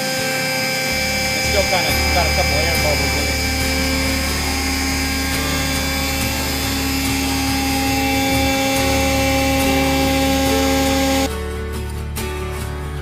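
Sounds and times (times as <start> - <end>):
electric motor low hum: 0.0 - 11.3
hydraulic pump whining: 0.0 - 11.3.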